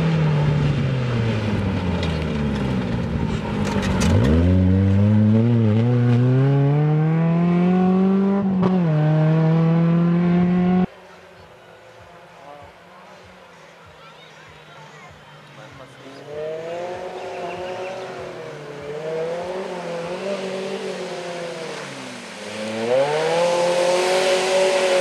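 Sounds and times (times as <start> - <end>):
rally car engine passing: 0.0 - 13.7, 15.7 - 25.0.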